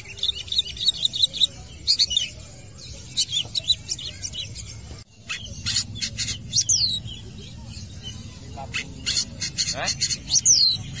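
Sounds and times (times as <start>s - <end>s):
shrike chattering song: 0.0s - 11.0s.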